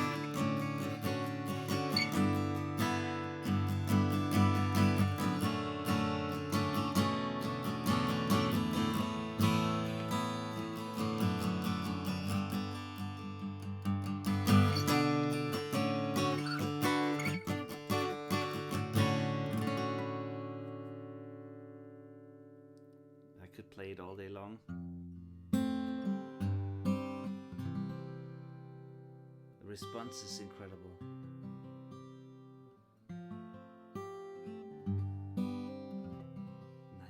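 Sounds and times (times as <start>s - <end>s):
acoustic guitar strummed chords: 0.0s - 23.6s, 24.7s - 37.0s.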